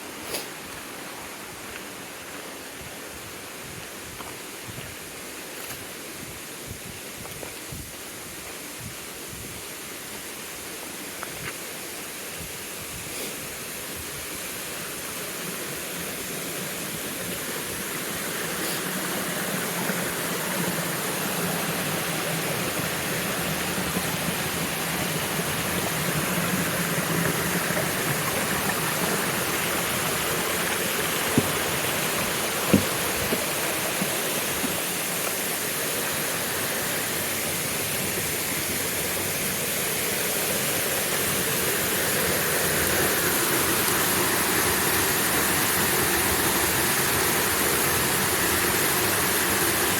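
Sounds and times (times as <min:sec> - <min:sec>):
rushing water roar: 0:00.0 - 0:49.9.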